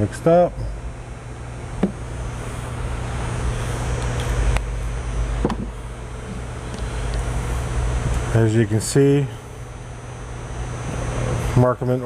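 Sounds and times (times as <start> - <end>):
mechanical hum and hiss: 0.0 - 12.0.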